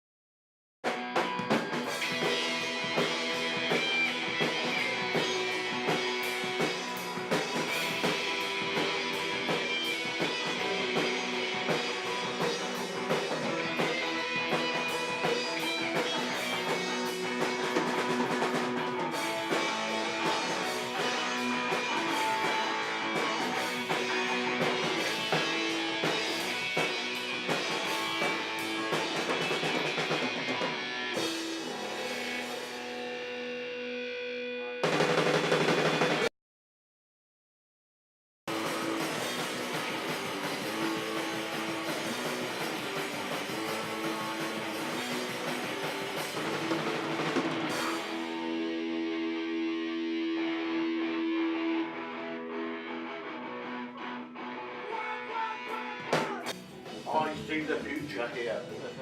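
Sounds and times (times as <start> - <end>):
driving drum kit: 0.8 - 33.4, 34.8 - 36.3, 38.5 - 49.1, 55.7 - 59.0
electric guitars: 0.8 - 36.3, 38.5 - 59.0.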